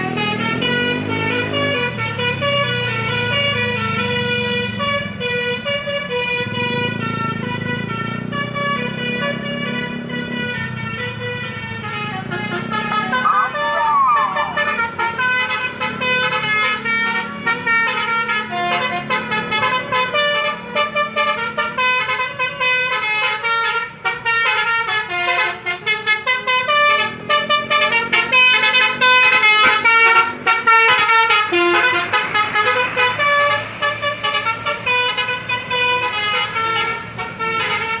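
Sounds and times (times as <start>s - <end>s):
multi-tone air horn melody: 0.0s - 38.0s.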